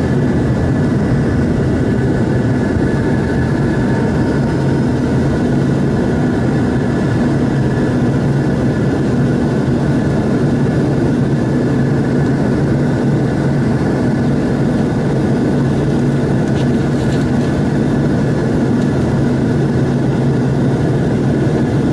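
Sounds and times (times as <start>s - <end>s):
high engine whine: 0.0s - 21.9s
jet engines roaring in cabin: 0.0s - 21.9s.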